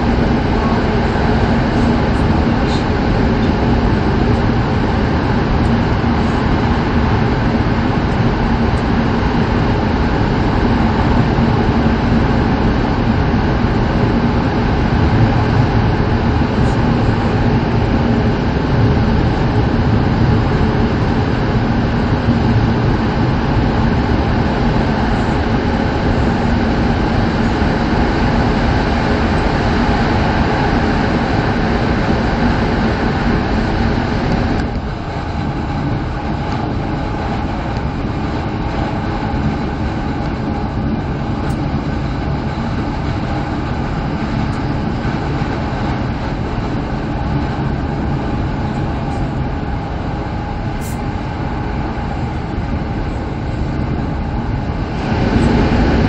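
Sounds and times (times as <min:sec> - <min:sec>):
train cabin running noise: 0:00.0 - 0:56.0.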